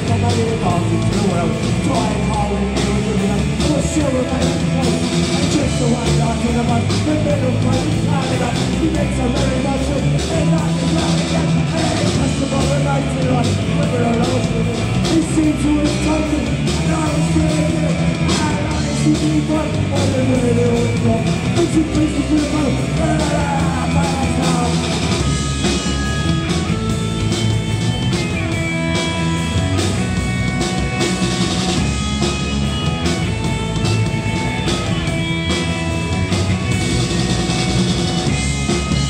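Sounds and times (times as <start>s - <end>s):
punk band playing: 0.0s - 39.0s.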